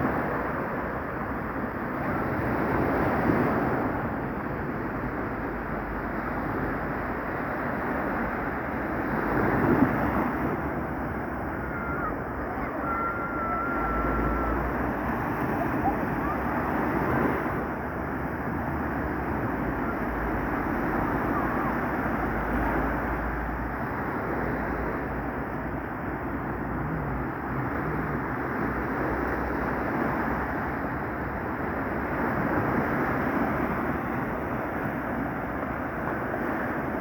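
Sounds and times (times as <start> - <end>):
surf rushing and breaking: 0.0 - 37.0
wind rumbling on microphone: 0.0 - 37.0.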